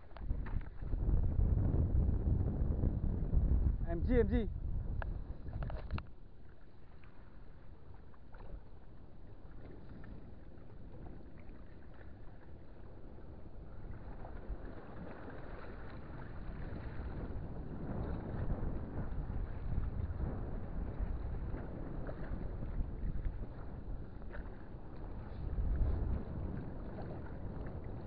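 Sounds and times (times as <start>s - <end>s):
wind buffeting microphone: 0.0s - 6.1s, 7.2s - 28.0s.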